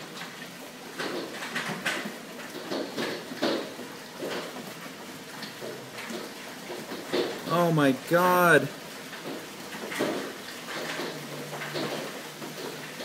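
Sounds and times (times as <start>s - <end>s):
hailstones knocking: 0.0s - 13.0s
hiss of falling hail and rain: 0.0s - 13.0s.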